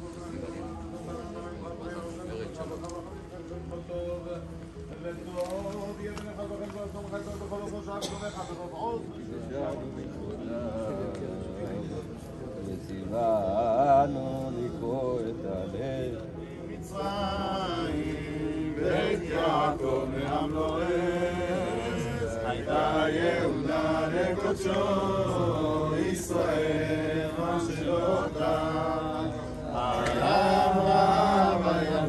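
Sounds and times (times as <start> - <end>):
men chanting prayers: 0.0 - 32.0.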